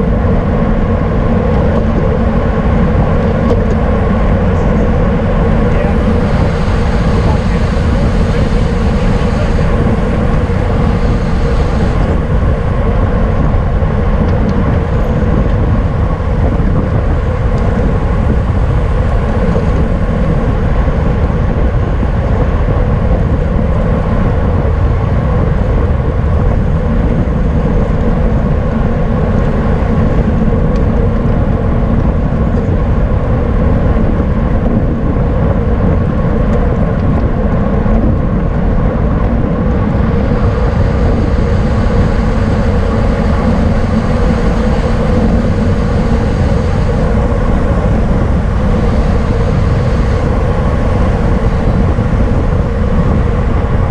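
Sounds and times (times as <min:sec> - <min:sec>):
bicycle road noise: 0:00.0 - 0:53.9
wind rush: 0:00.0 - 0:53.9.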